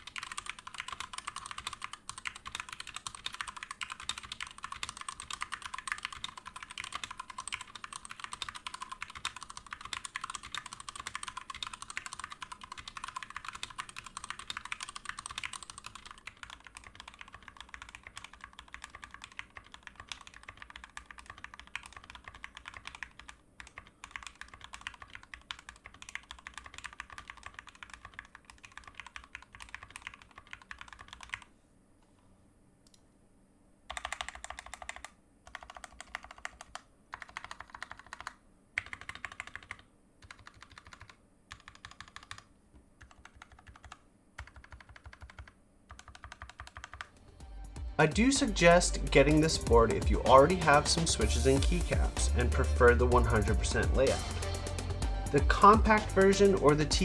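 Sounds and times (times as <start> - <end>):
typing on mechanical keyboard: 0.0 - 31.5, 33.9 - 47.2, 52.8 - 54.2.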